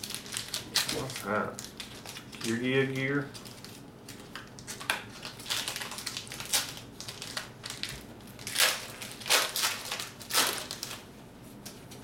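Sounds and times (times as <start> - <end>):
cards and wrappers crinkling: 0.0 - 11.1.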